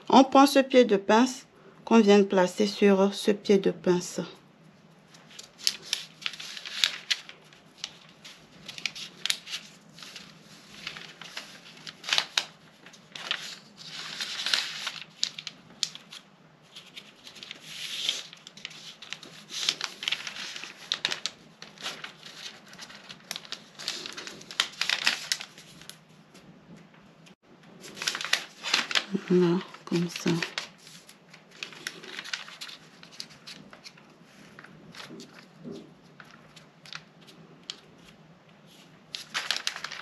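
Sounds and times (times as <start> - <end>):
paper rustling and crinkling: 4.8 - 40.0.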